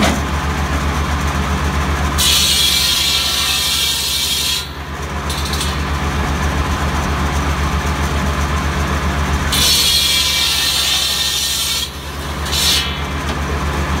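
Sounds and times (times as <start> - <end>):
diesel engine droning: 0.0 - 3.4, 4.6 - 10.7, 11.9 - 14.0
circular saw cutting wood: 2.0 - 14.0.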